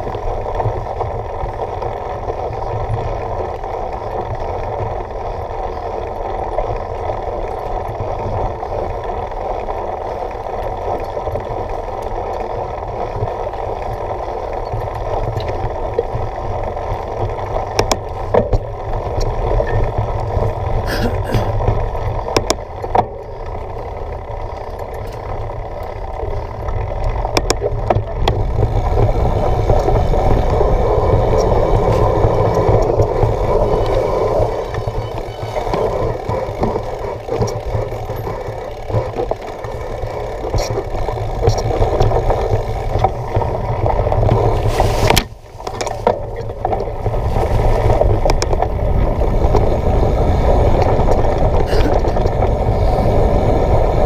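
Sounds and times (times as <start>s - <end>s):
bike clicks and rattles: 0.0s - 54.0s
bike rolling on dirt trail: 0.0s - 54.0s.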